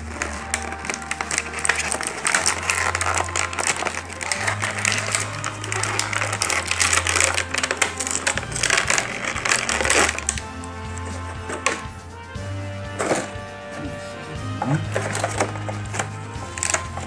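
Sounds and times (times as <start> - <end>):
plastic packaging crinkling: 0.0 - 12.0, 14.6 - 17.0
plastic tearing: 0.0 - 12.0, 12.9 - 13.5, 14.6 - 17.0
background music with bass: 0.0 - 17.0.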